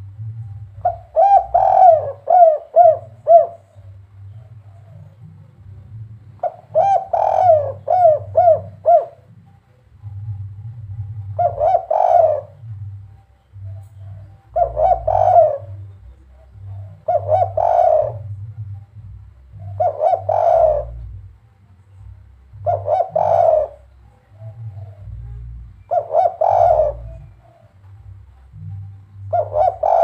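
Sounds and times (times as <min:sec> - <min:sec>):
dove cooing: 0:00.0 - 0:30.0.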